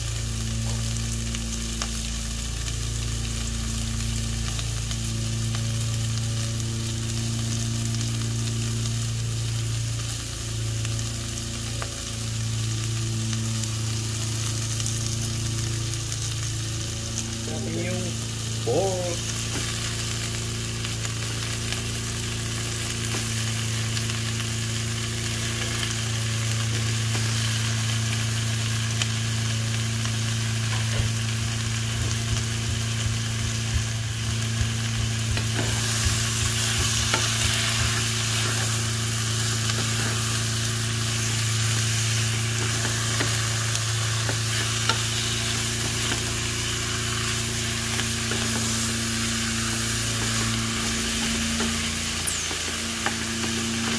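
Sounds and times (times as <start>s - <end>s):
low hum: 0.0s - 53.9s
meat sizzling in a pot: 0.0s - 53.9s.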